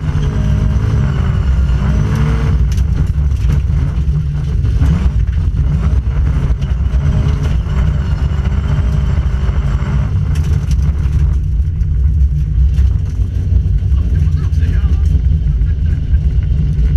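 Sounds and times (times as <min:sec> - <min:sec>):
rally car engine rumbling: 0:00.0 - 0:16.9.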